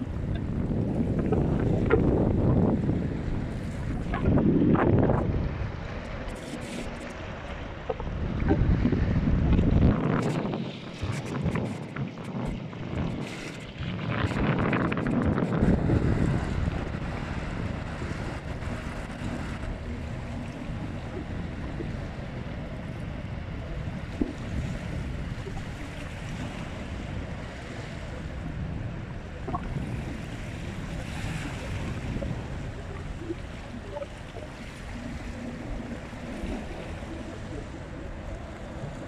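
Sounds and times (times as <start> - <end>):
wind and water noise: 0.0 - 39.0
wind buffeting microphone: 0.0 - 39.0.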